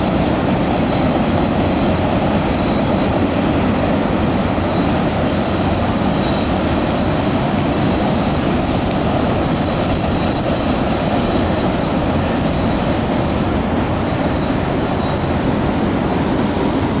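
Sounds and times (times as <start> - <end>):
distant freight train rumbling: 0.0 - 17.0.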